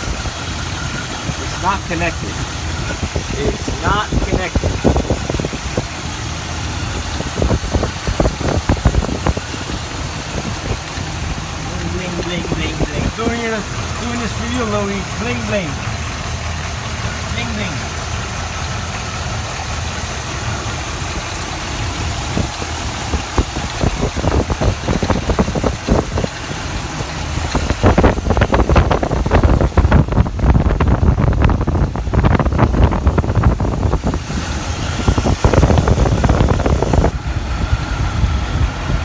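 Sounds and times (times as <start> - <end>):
car engine idling: 0.0 - 39.0
engine knocking and rumbling: 0.0 - 39.0.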